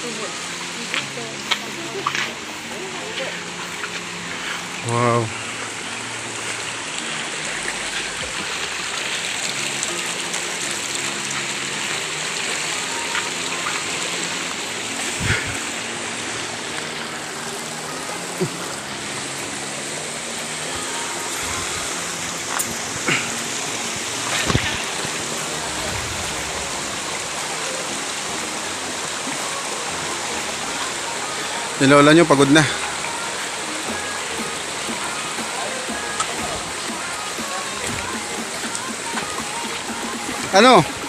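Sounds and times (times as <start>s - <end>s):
stream running over rocks: 0.0s - 41.0s.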